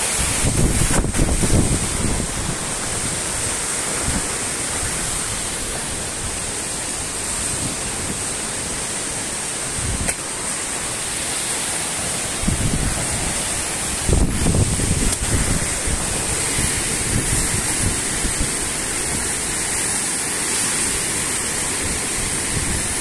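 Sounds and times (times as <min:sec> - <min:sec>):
wind buffeting microphone: 0:00.0 - 0:10.3, 0:12.0 - 0:19.8, 0:20.9 - 0:23.0
waterfall rushing: 0:00.0 - 0:23.0.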